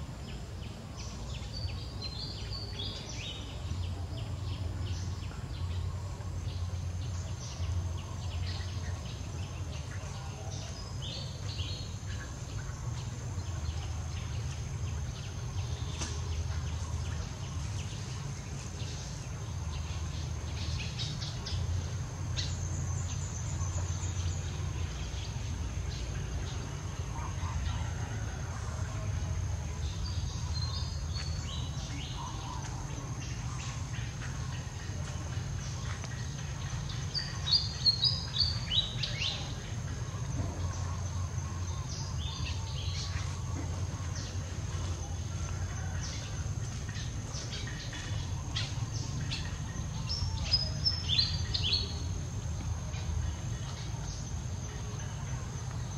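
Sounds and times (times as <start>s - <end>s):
songbird chirping: 0.0s - 55.9s.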